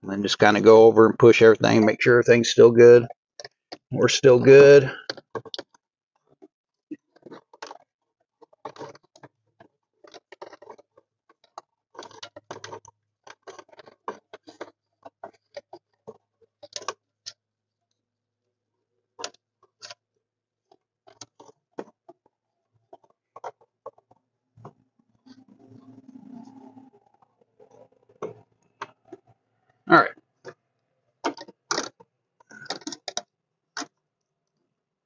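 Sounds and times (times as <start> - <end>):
wires and plastic rustling: 2.8 - 18.0, 19.1 - 34.6.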